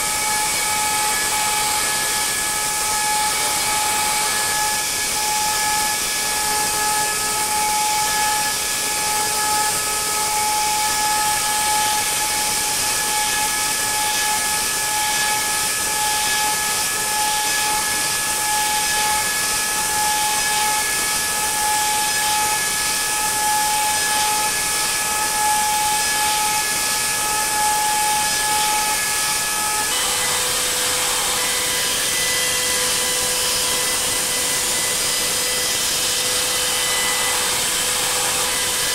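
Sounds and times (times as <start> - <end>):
milling machine spindle whine: 0.0 - 38.9
hiss of metal cutting: 0.1 - 38.9.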